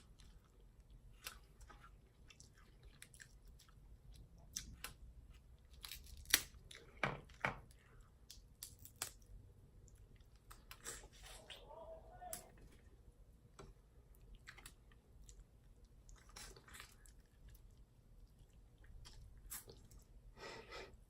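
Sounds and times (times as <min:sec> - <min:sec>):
person chewing food: 0:00.0 - 0:11.7, 0:12.4 - 0:21.0.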